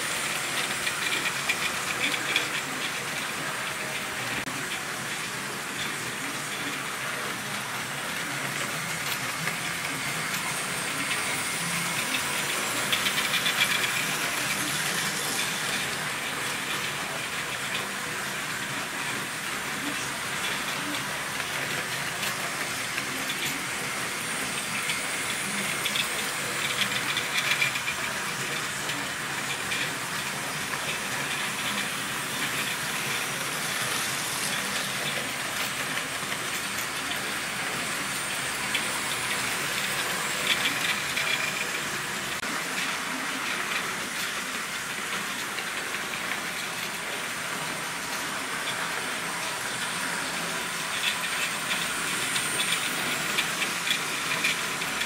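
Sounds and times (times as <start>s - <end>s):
model trains rolling: 0.0s - 55.0s.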